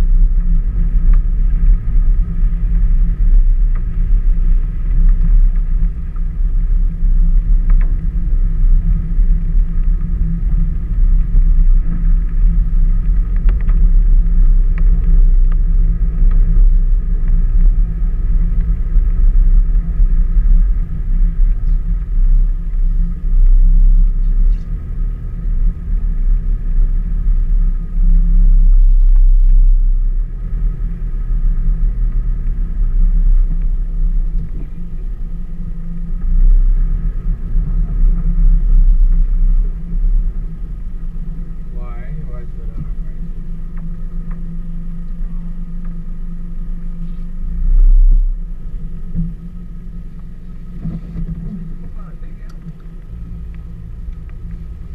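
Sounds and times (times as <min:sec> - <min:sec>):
vehicle on wet gravel: 0:00.0 - 0:54.9.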